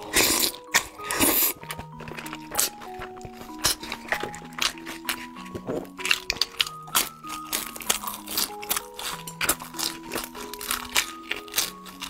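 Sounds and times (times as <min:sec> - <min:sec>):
background music simple melody: 0:00.0 - 0:12.0
person chewing and smacking: 0:00.0 - 0:12.0.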